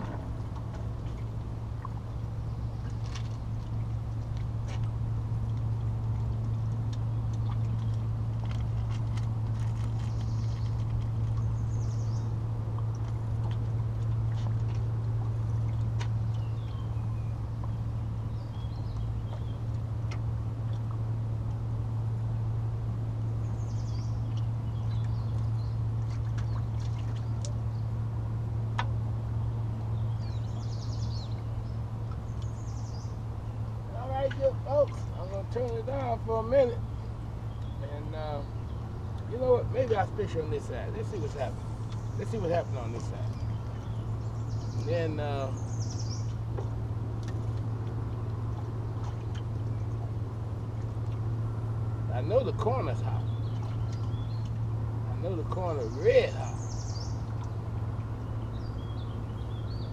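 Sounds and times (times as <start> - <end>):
birds chirping: 0.0 - 59.9
low drone: 0.0 - 59.9
steady low hum: 0.0 - 59.9.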